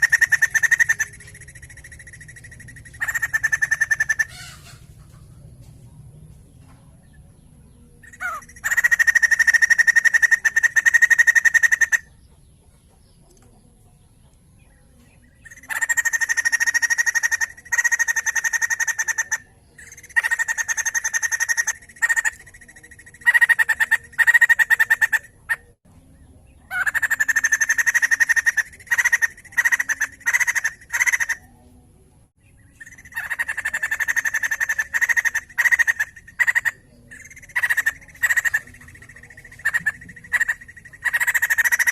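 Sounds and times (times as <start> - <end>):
laughingthrush chattering: 0.0 - 5.3, 8.0 - 12.1, 15.4 - 25.8, 26.7 - 31.5, 32.8 - 41.9.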